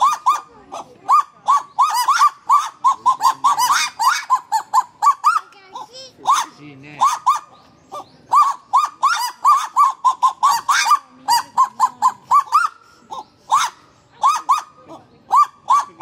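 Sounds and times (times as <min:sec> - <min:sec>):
bird giving short arched calls: 0:00.0 - 0:16.0.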